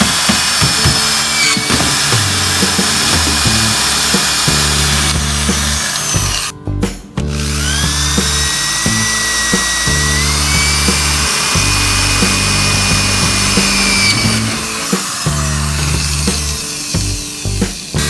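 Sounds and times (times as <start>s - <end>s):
power tool whining: 0.0s - 6.5s, 7.3s - 18.0s
background music with beat: 0.0s - 18.0s.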